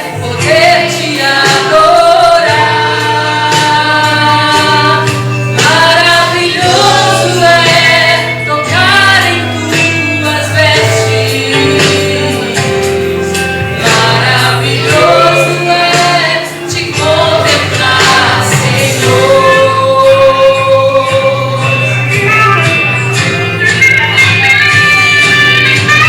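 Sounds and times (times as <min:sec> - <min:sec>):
woman singing gospel song: 0:00.0 - 0:12.8, 0:13.8 - 0:22.0
sustained instrumental accompaniment: 0:00.0 - 0:26.0.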